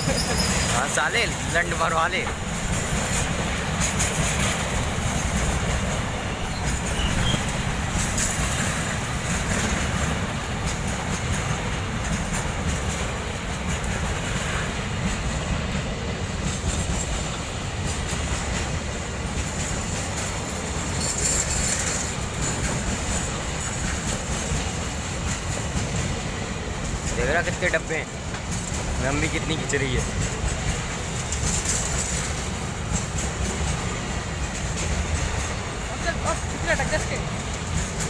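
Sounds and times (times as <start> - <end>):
train wagons rumbling: 0.0 - 38.0
wheels clattering on track: 0.0 - 38.0.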